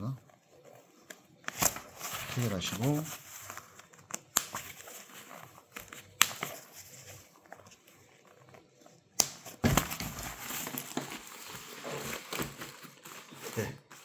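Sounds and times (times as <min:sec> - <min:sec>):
fabric rustling: 0:00.1 - 0:14.0.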